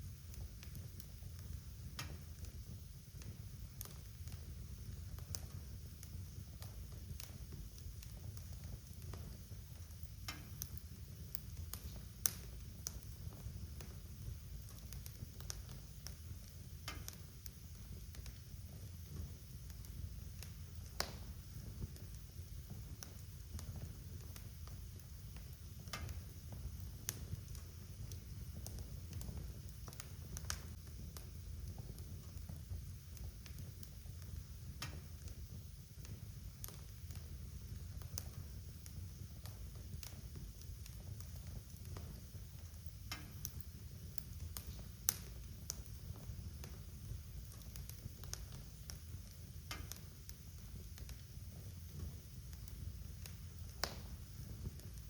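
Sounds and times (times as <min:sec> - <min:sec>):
fire crackling and popping: 0:00.0 - 0:55.0
fire flames rumbling: 0:00.0 - 0:55.0.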